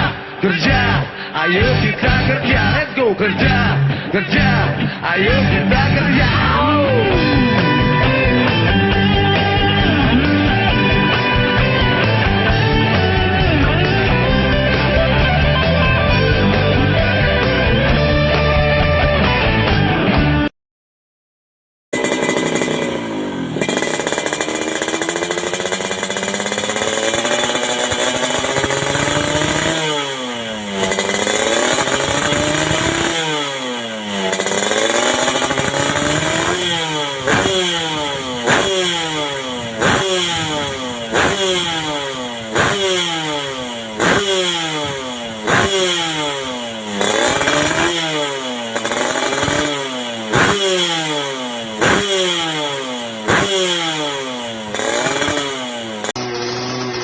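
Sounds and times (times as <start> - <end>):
two-stroke motorcycle engine revving: 0.0 - 18.9, 22.0 - 57.0.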